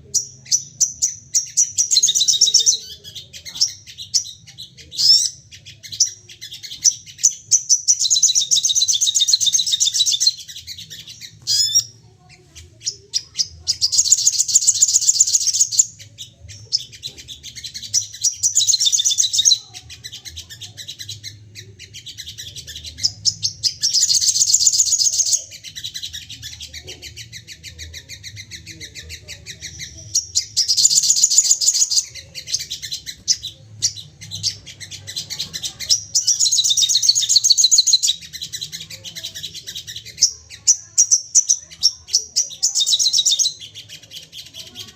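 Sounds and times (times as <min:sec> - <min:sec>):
bird chattering trills: 0:00.0 - 0:44.9.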